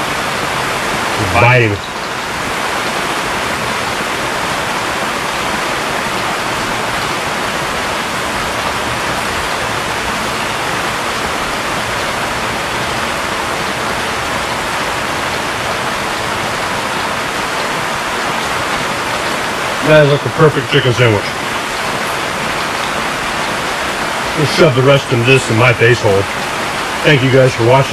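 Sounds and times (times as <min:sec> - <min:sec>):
rain on fabric tent roof: 0:00.0 - 0:27.9.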